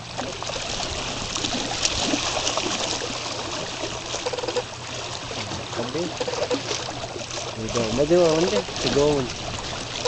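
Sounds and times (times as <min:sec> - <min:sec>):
water lapping over stones: 0:00.0 - 0:10.0.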